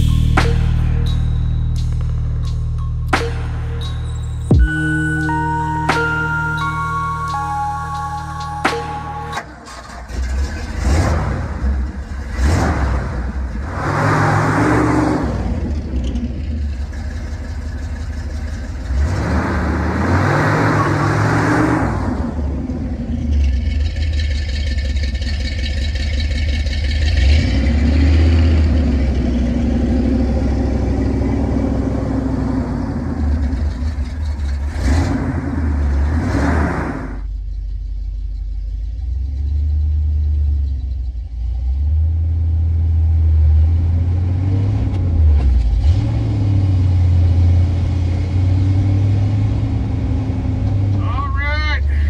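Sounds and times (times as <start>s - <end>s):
pickup truck engine revving: 1.9s - 51.0s.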